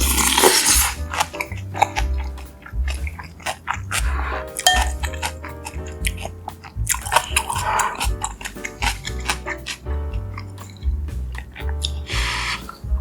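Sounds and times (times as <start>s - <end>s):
music with pulsing bass: 0.0s - 13.0s
chewing with wet clicks: 0.1s - 12.1s.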